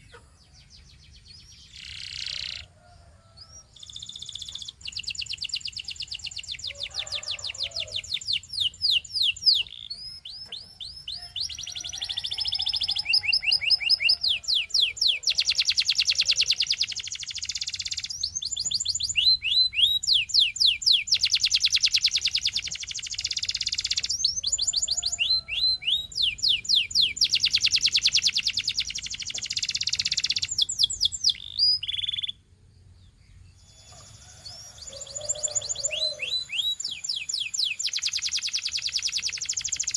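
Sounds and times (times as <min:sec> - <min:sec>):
canary singing trills: 0:00.0 - 0:02.8, 0:03.4 - 0:32.5, 0:33.1 - 0:39.9.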